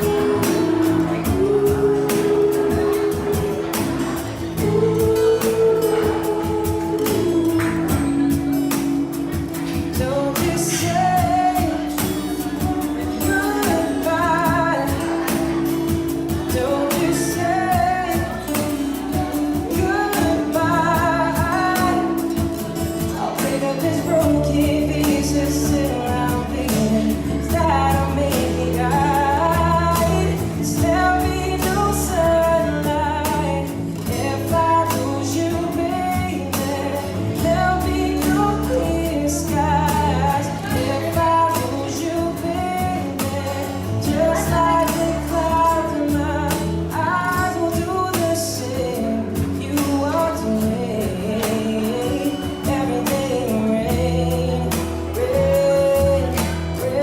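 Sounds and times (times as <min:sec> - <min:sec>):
instrumental backing: 0:00.0 - 0:57.0
low bass notes: 0:00.0 - 0:57.0
person singing with vibrato: 0:00.0 - 0:57.0.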